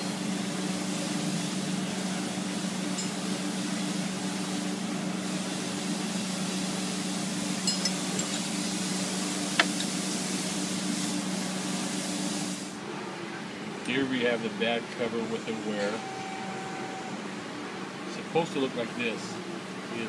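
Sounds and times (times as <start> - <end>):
machine hum with rushing air: 0.0 - 20.0.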